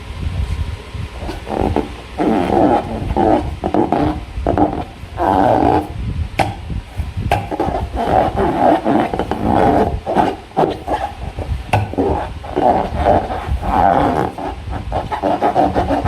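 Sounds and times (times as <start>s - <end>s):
slime balloon rubbing and squeaking: 1.2s - 16.0s.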